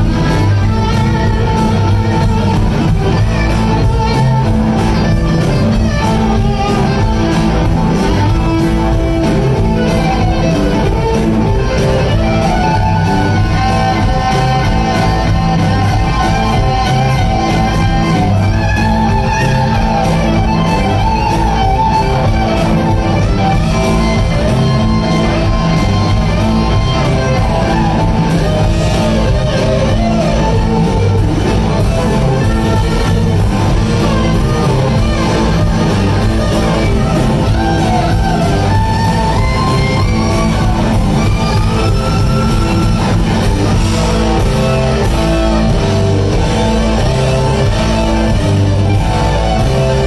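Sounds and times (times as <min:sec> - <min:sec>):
lead guitar bending notes: 0:00.0 - 0:50.0
live rock band playing: 0:00.0 - 0:50.0.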